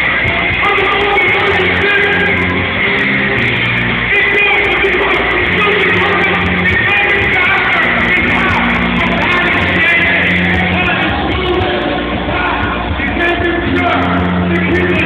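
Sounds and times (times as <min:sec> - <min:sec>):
held bass notes: 0:00.0 - 0:15.0
rock music with singer: 0:00.0 - 0:15.0.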